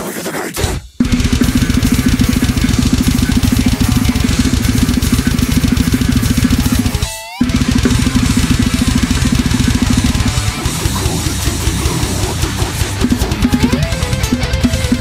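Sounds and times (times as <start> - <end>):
death metal backing track: 0.6 - 15.0
fast double bass drum: 1.0 - 15.0.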